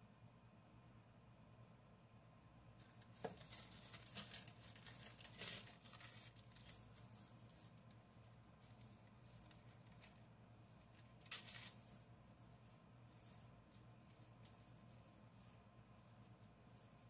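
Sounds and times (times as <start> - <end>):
paper crinkling and rustling: 2.8 - 17.0.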